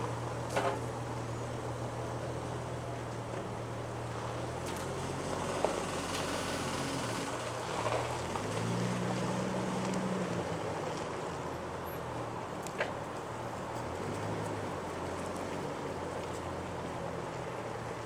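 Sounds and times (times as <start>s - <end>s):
car engine pulling: 0.0s - 18.0s.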